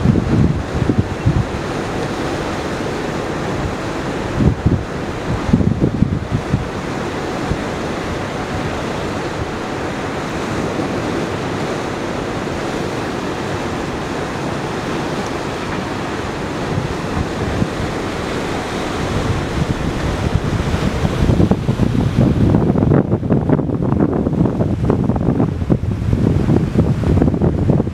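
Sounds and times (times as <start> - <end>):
wind and sea water rushing: 0.0 - 27.9
wind buffeting microphone: 0.0 - 27.9.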